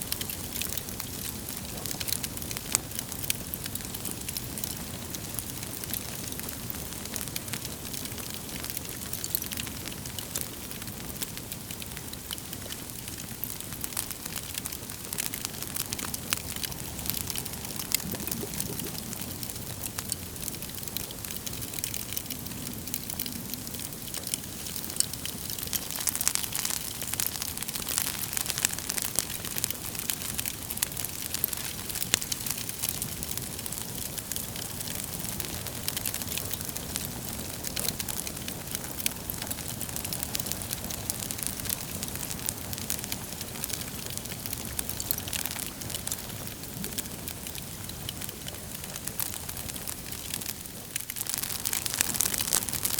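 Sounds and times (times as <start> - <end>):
logs crackling and popping: 0.0 - 52.9
wood fire hissing: 0.0 - 52.9.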